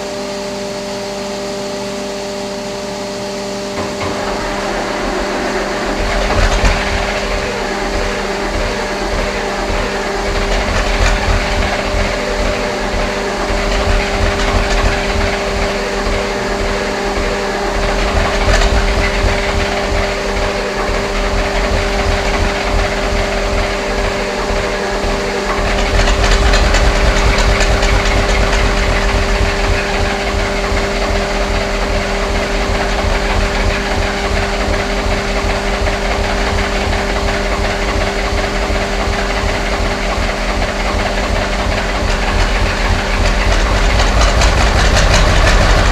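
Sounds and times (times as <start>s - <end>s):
diesel engine running: 2.7s - 45.9s.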